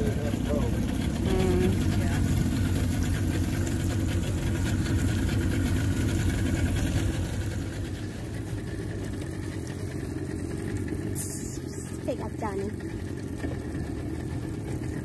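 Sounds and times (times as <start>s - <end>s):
boat motor idling: 0.0s - 15.0s.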